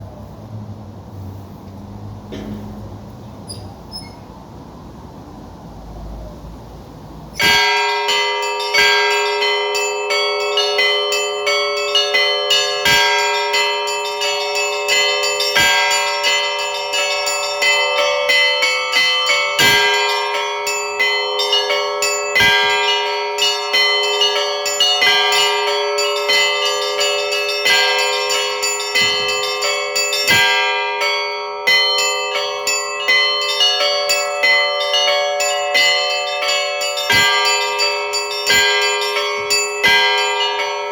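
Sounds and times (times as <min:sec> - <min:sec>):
deep church bell: 0:07.4 - 0:40.9
smaller high bells ringing: 0:07.4 - 0:40.9.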